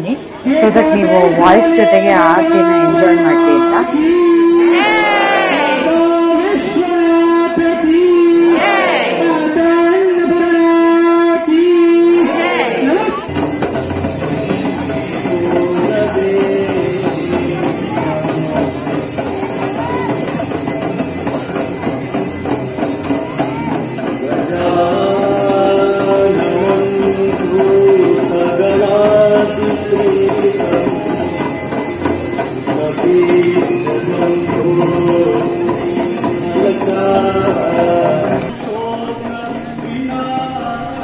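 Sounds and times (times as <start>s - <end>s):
bells ringing: 0.1s - 6.0s, 13.2s - 41.0s
devotional singing: 0.4s - 41.0s.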